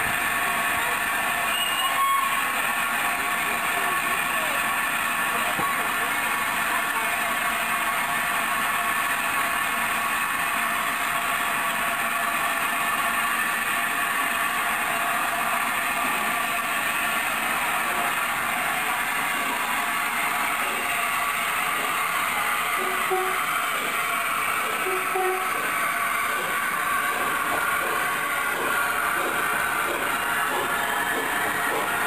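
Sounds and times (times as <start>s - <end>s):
steam locomotive hissing steam: 0.0s - 32.0s.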